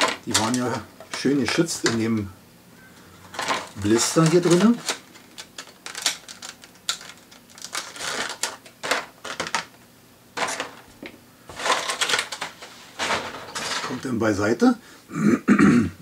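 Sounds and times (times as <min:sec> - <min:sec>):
plastic packaging crackling: 0:00.0 - 0:02.3, 0:03.2 - 0:14.2.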